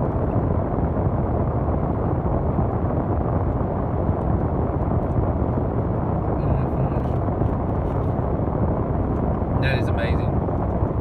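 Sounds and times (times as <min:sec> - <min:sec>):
car air conditioner blowing: 0:00.0 - 0:11.0.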